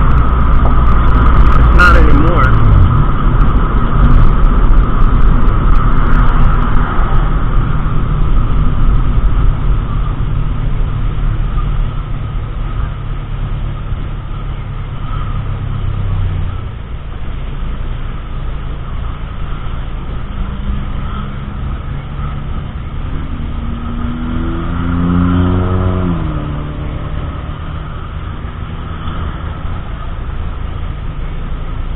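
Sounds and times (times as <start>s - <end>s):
car engine: 0.0s - 31.9s
road rumble: 0.0s - 31.9s.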